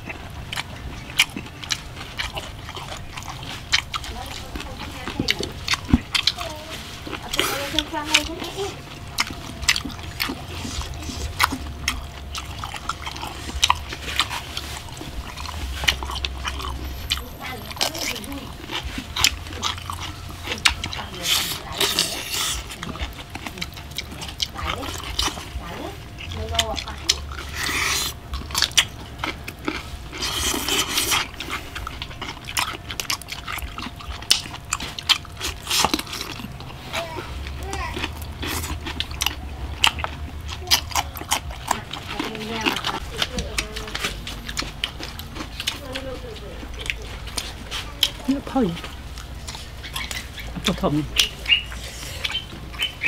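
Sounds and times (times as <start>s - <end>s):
crispy food crackling as torn: 0.0s - 53.0s
man chewing with wet smacking: 0.0s - 53.0s
steady low hum: 0.0s - 53.0s.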